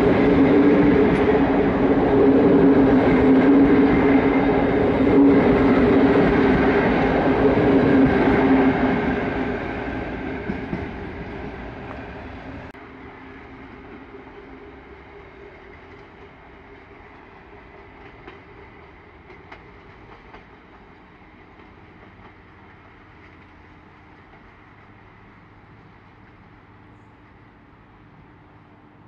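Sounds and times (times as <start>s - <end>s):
train running on rails: 0.0s - 29.0s.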